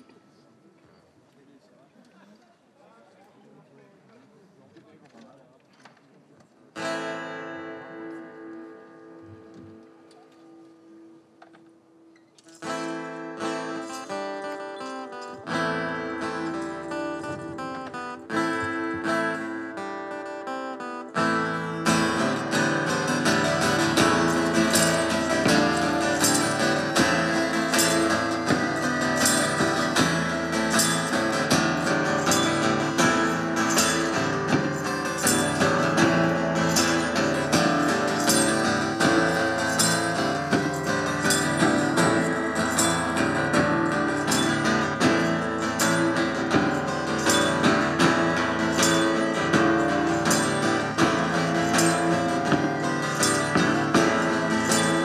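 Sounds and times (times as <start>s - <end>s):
acoustic guitar playing: 6.8s - 55.0s.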